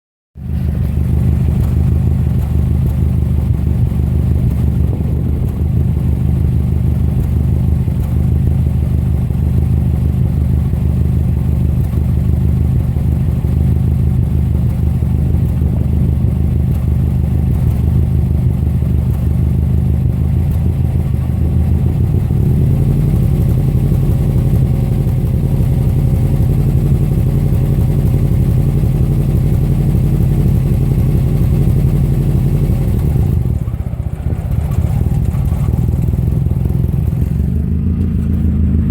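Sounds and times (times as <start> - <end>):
engine idling unevenly with misfire: 0.4 - 38.9.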